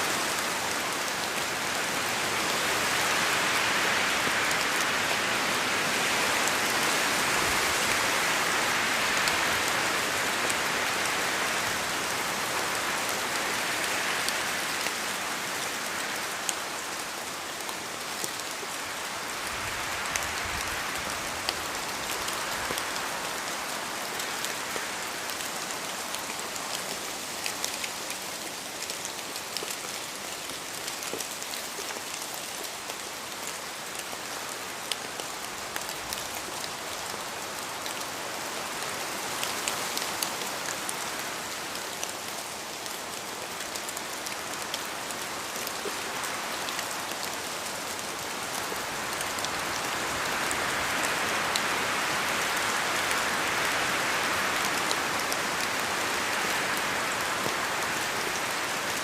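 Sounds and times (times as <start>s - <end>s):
rain hiss: 0.0s - 59.0s
wind gusting through trees: 0.0s - 59.0s.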